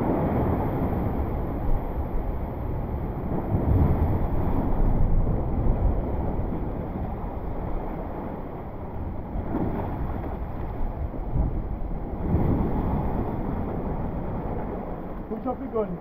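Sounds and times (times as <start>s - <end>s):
sea water rushing: 0.0s - 16.0s
wind on microphone: 0.0s - 16.0s.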